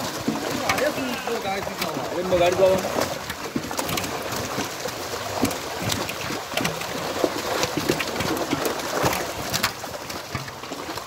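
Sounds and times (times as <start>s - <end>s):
fish thrashing in shallow water: 0.0s - 11.0s.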